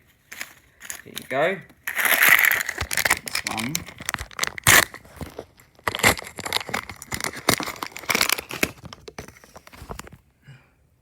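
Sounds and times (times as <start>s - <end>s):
packets crinkling and tearing: 0.1s - 10.2s.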